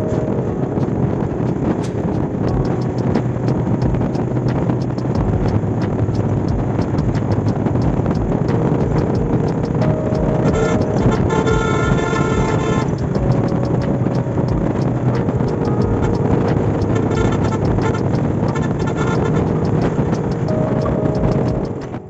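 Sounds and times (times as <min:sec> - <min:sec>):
music with ticking beat and chords: 0:00.0 - 0:22.0.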